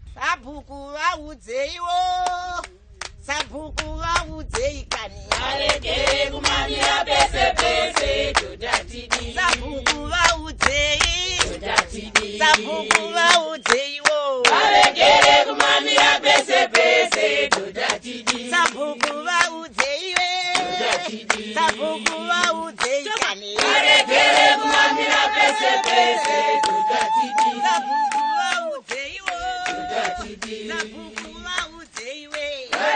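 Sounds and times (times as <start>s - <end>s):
hands clapping in rhythm: 2.2s - 32.9s
group singing without instruments: 5.1s - 10.4s, 11.0s - 32.9s.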